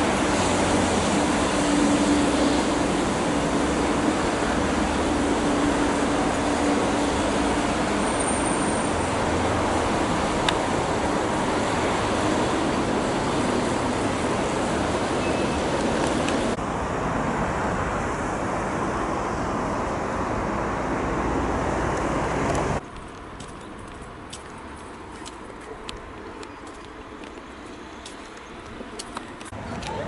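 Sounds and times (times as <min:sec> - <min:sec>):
road traffic rush: 0:00.0 - 0:30.0.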